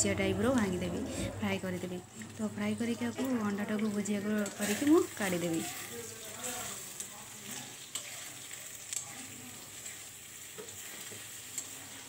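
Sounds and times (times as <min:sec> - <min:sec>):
egg sizzling in oil: 0:01.7 - 0:12.0.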